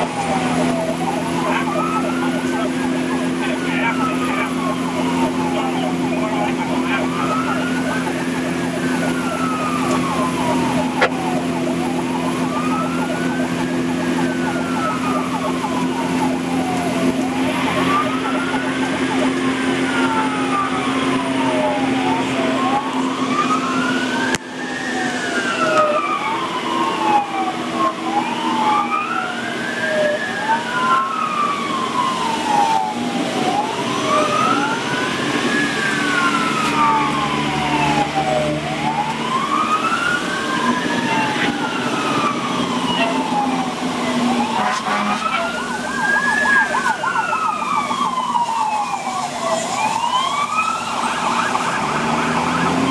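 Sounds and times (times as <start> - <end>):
engine droning: 0.0 - 52.9
fire engine siren wailing: 0.0 - 52.9
second wailing siren: 0.0 - 52.9.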